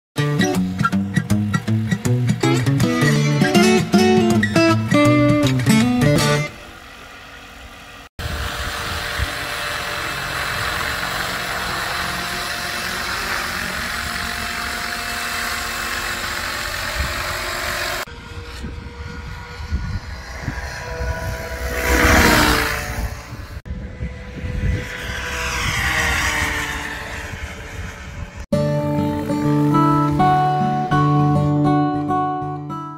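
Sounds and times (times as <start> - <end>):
rc helicopter rotor whine: 0.2 - 31.4.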